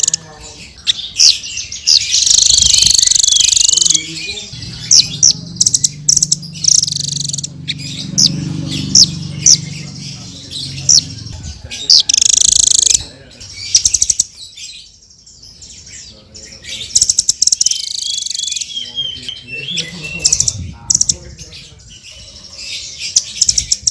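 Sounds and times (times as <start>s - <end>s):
parrot chirps and buzzy trills: 0.0s - 23.9s.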